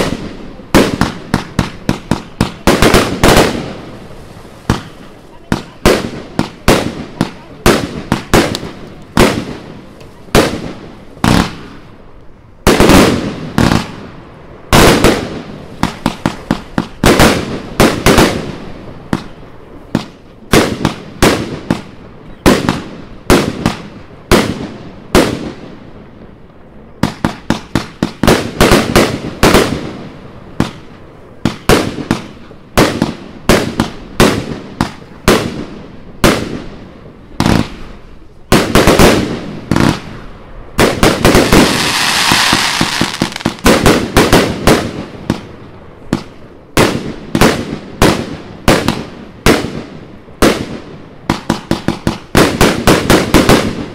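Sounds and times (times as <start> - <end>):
firework shots and aerial bursts: 0.0 - 53.9.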